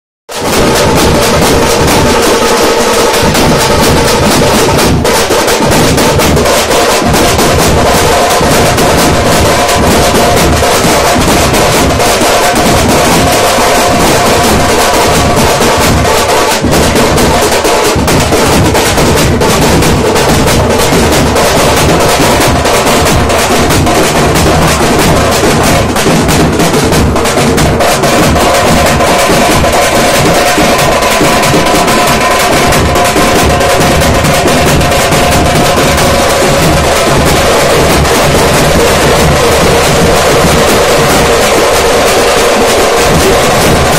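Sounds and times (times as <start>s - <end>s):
bass drums beating: 0.3s - 43.9s.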